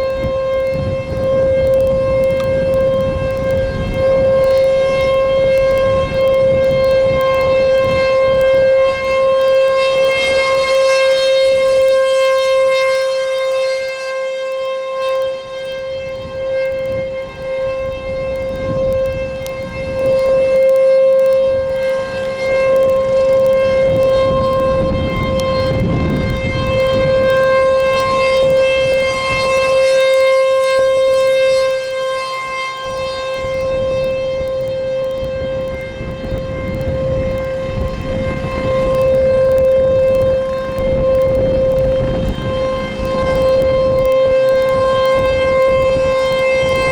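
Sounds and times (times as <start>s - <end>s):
warning siren steady tone: 0.0s - 46.9s.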